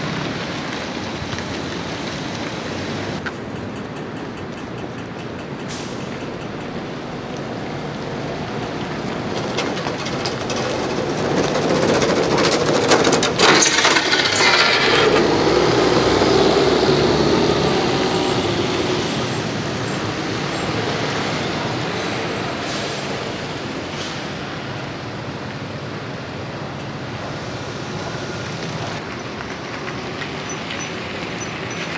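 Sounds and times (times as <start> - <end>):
buses passing on wet street: 0.0 - 31.9.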